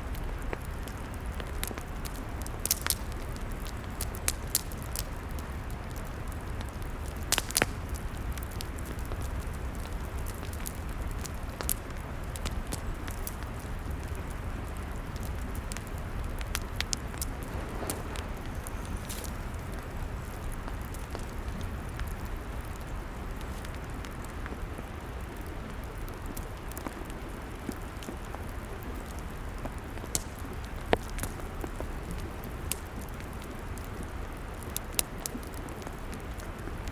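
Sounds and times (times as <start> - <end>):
log fire crackling: 0.0 - 36.9
low hiss and rumble of fire: 0.0 - 36.9.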